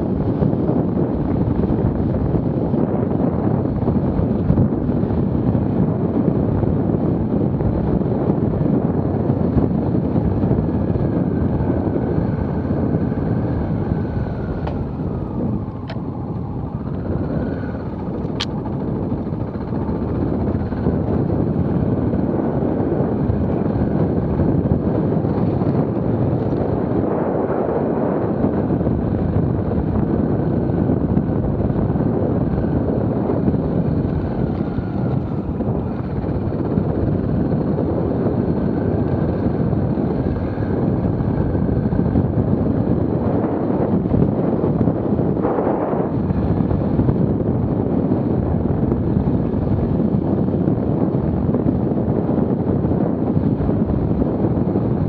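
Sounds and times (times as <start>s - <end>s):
motorcycle engine rumble: 0.0s - 55.0s.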